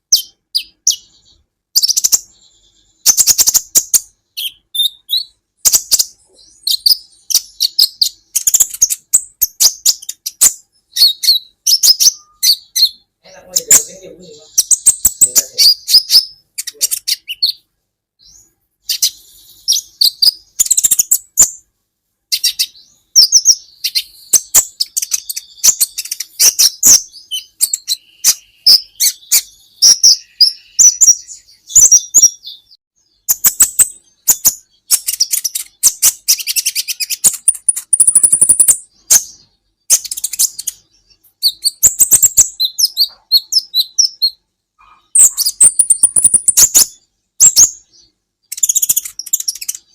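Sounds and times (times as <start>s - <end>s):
sunbird chattering song: 0.0s - 17.6s, 18.2s - 21.6s, 22.3s - 49.9s.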